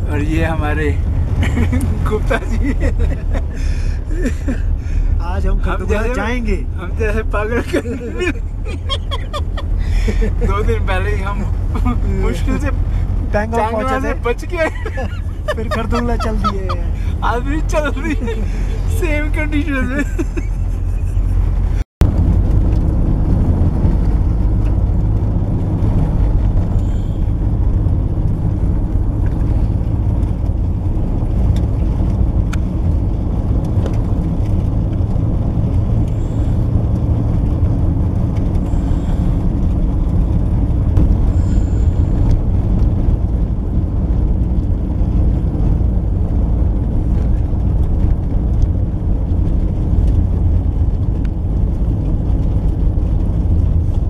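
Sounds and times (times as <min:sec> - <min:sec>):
car driving heard from inside: 0:00.0 - 0:54.0.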